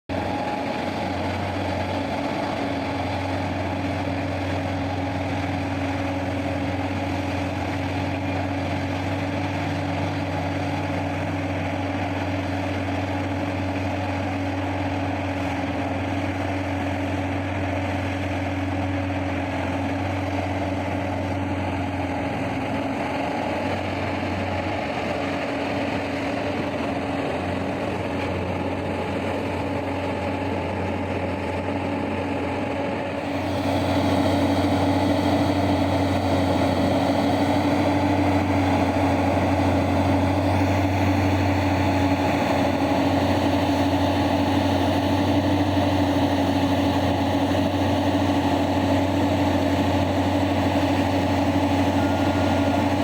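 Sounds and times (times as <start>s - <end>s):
diesel engines droning: 0.1s - 53.0s.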